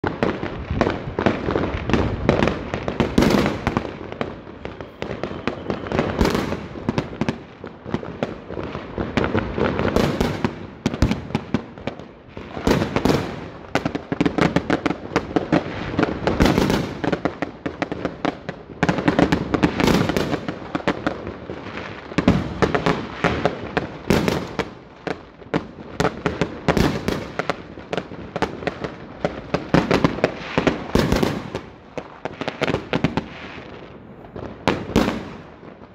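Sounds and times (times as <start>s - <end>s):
fireworks bangs: 0.0s - 35.9s.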